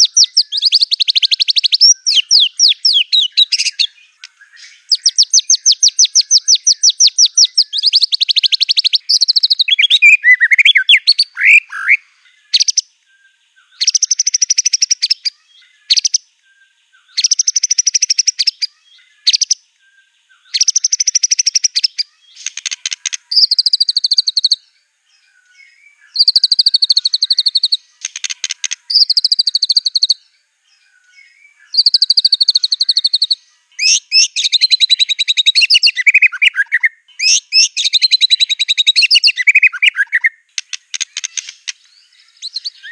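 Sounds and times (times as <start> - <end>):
songbird trilling and whistling: 0.0 - 42.9.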